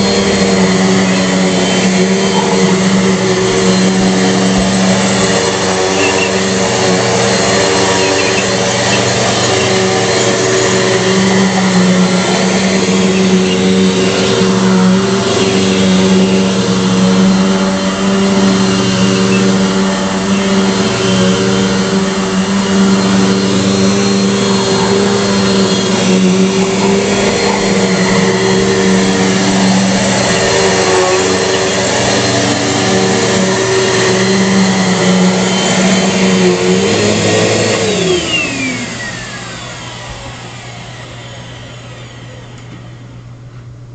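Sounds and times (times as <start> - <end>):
vacuum motor winding down: 0.0 - 43.4
vacuum cleaner running: 0.0 - 43.9.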